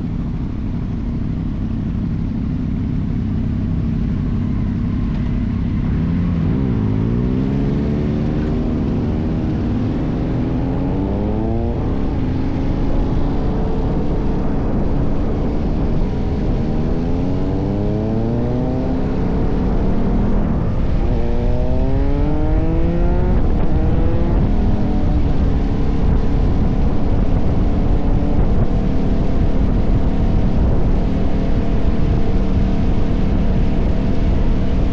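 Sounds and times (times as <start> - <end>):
motorcycle engine accelerating: 0.0 - 34.9
wind and road noise: 0.0 - 34.9.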